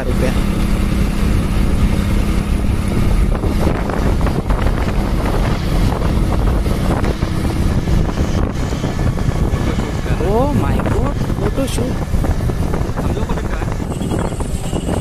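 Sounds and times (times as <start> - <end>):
motorcycle engine and road noise: 0.0 - 15.0
wind buffeting microphone: 0.0 - 15.0.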